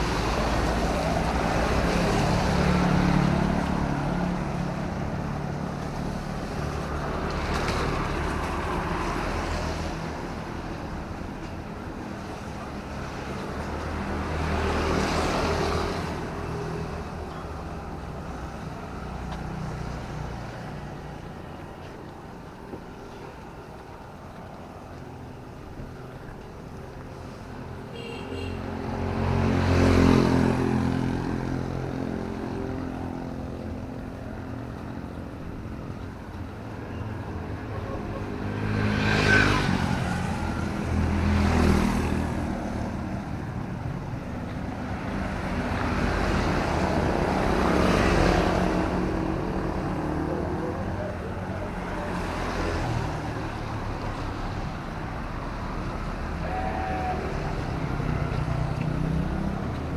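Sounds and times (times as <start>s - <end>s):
background traffic: 0.0s - 59.9s
vehicles passing on wet road: 0.0s - 59.9s.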